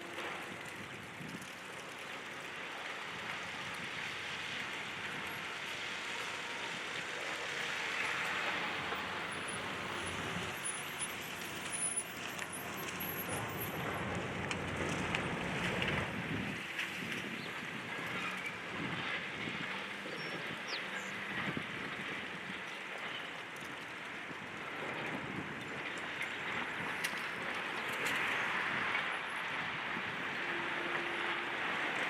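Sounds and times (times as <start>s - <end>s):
passing road traffic: 0.0s - 25.4s, 26.0s - 32.0s.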